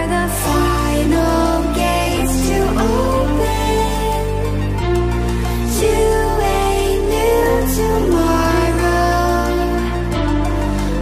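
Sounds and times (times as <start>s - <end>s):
sustained chords over deep bass: 0.0s - 11.0s.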